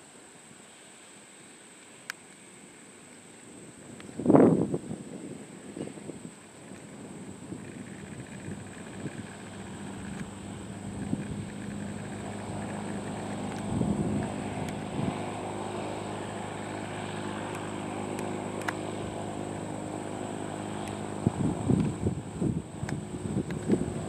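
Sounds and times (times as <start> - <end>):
propeller airplane engine: 2.0 - 24.0
wind gusts buffeting microphone: 4.1 - 24.0.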